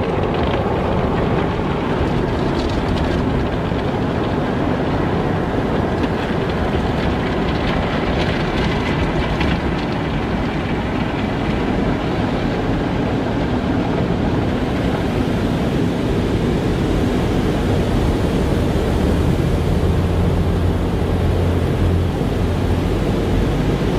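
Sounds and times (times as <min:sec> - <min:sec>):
car wash spraying water: 0:00.0 - 0:23.9.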